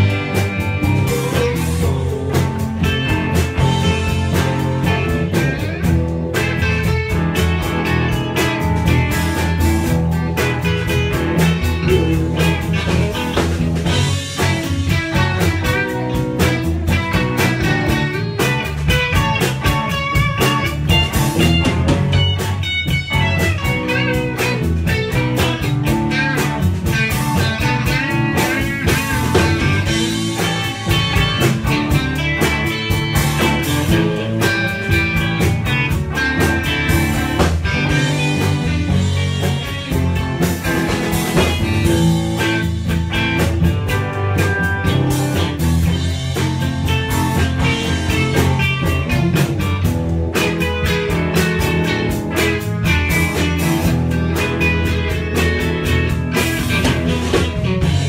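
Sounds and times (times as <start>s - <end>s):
drum kit: 0.0s - 58.0s
electric bass: 0.0s - 58.0s
electric guitars bending pitch: 0.0s - 58.0s.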